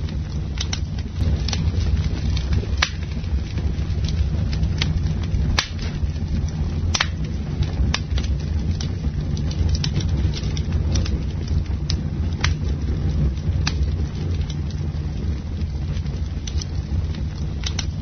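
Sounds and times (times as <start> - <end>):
crackles and pops of burning wood: 0.0 - 18.0
low rumble of fire: 0.0 - 18.0.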